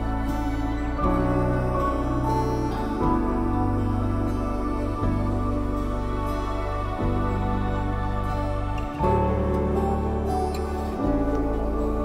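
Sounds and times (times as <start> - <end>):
music of held chords: 0.0 - 12.0.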